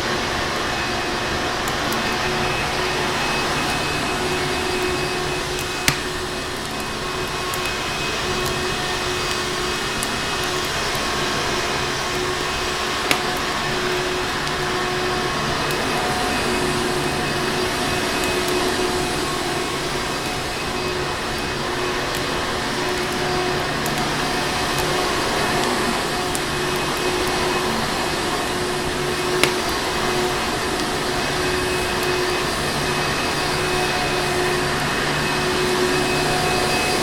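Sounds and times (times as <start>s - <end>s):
wood fire crackling: 0.0s - 34.6s
vacuum cleaner droning: 0.0s - 37.0s.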